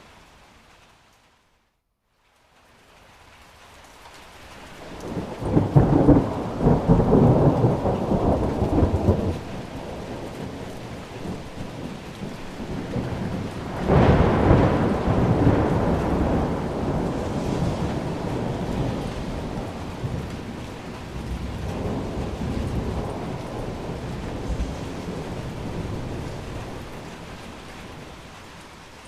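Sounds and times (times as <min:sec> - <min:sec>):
steady rain: 0:00.0 - 0:29.0
low rolls of thunder: 0:04.7 - 0:29.0.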